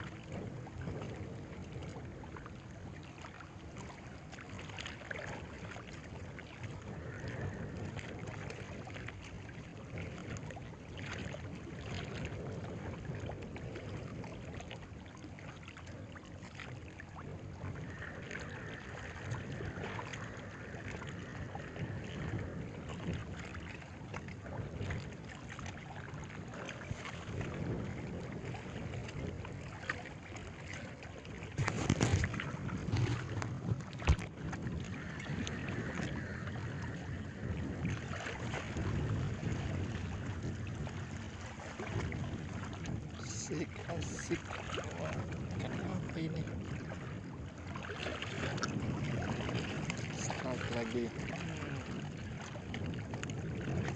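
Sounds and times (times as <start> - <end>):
water: 0.0 - 53.9
wind: 0.0 - 53.9.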